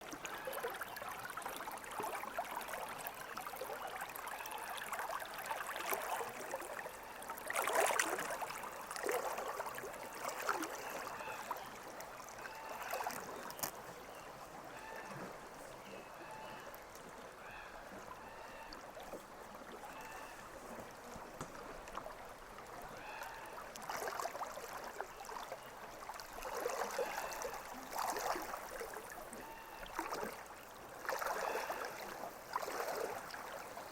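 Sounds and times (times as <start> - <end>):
river water flowing and gurgling: 0.0 - 33.9
water splashing: 4.8 - 17.3, 18.0 - 33.9.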